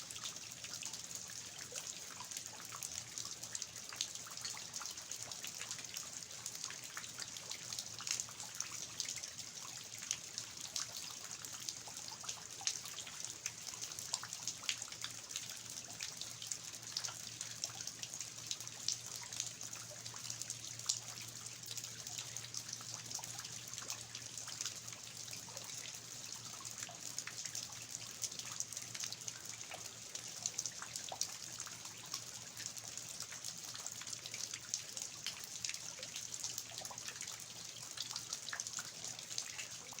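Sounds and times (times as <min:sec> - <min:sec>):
water dripping off eaves: 0:00.1 - 0:40.0.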